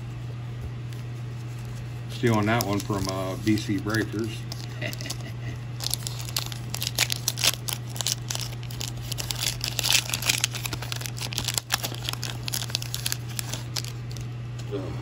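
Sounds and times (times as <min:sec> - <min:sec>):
steady low hum: 0:00.0 - 0:15.0
wrapper tearing and crinkling: 0:02.1 - 0:14.3.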